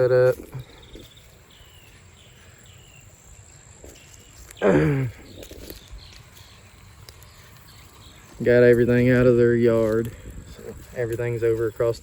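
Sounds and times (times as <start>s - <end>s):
crickets and insects droning: 0.0s - 12.0s.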